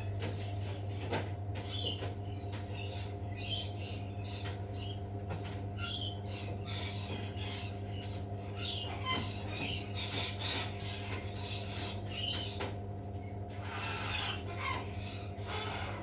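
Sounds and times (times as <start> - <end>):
bird calls and squawks: 0.0 - 16.0
steady low hum: 0.0 - 16.0.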